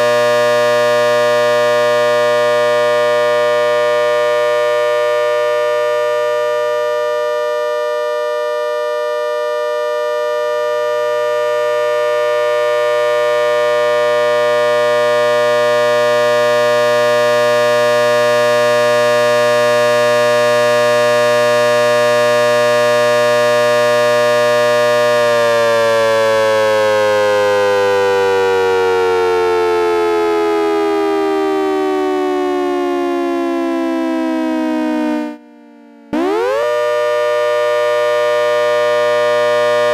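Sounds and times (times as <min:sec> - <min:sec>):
dual-tone siren chord: 0:00.0 - 0:39.9.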